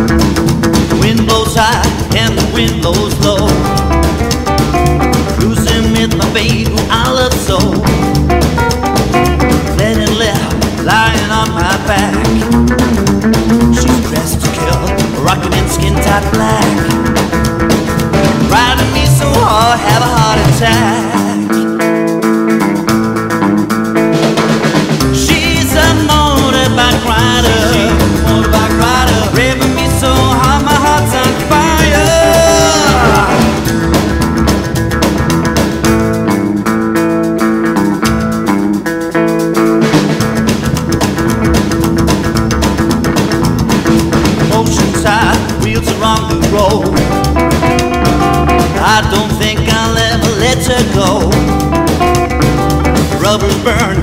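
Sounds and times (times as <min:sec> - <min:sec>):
bass line: 0:00.0 - 0:54.0
drum kit: 0:00.0 - 0:54.0
guitar: 0:00.0 - 0:54.0.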